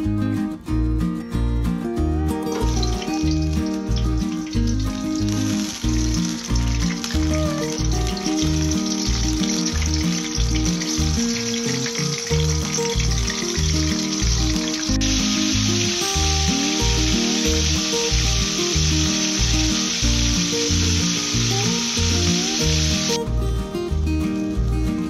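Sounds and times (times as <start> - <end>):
background music with beat: 0.0 - 25.0
fish deep-frying in oil: 2.5 - 23.2.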